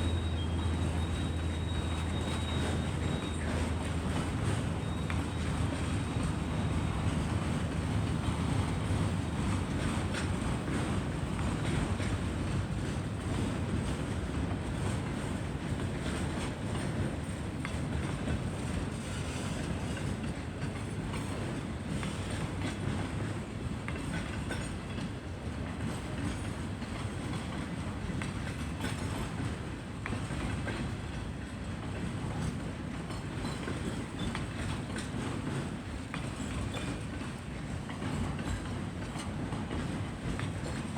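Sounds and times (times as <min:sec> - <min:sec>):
freight train cars rumbling: 0:00.0 - 0:40.9.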